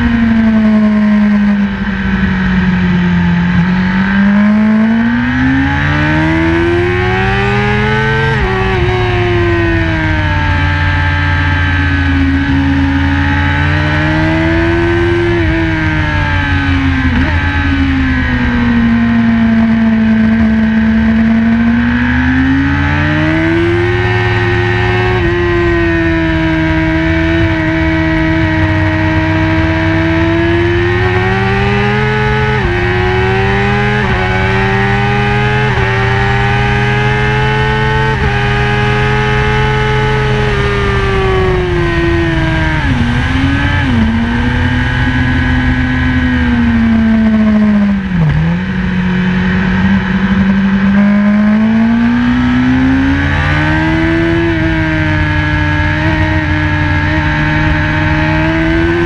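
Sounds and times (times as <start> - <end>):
motorcycle engine revving with upshifts: 0.0 - 59.0.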